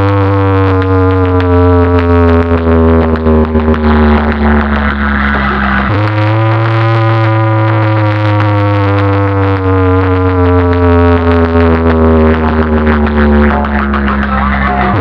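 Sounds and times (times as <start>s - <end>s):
droning electronic bass note: 0.0s - 15.0s.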